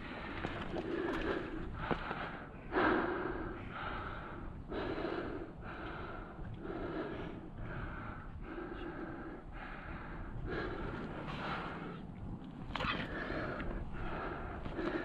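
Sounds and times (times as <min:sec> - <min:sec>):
heavy breathing: 0:00.0 - 0:12.1, 0:12.7 - 0:15.0.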